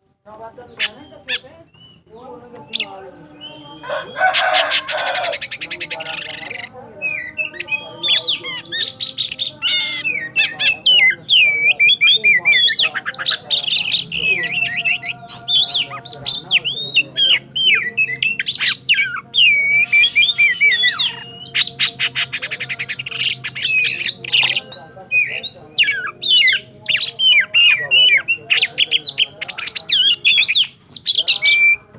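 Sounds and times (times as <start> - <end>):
songbird whistling and trilling: 0.7 - 31.9.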